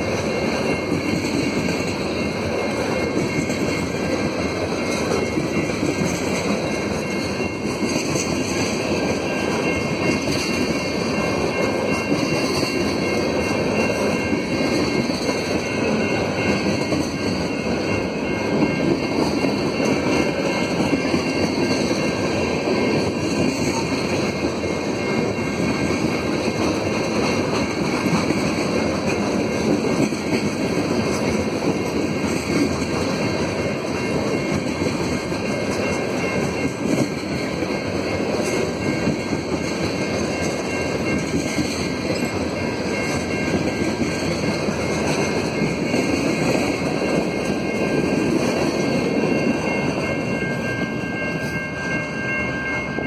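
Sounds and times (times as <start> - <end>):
clickety-clack of train wheels: 0.0 - 53.0
train wheels rumbling on rails: 0.0 - 53.0.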